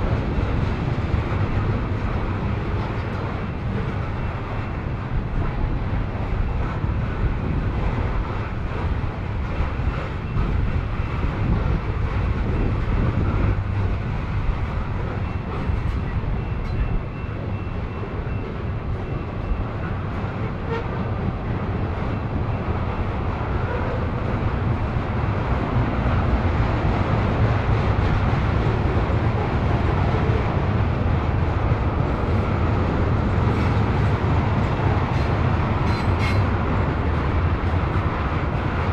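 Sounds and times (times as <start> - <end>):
freight train wheels rumbling on rails: 0.0 - 38.9.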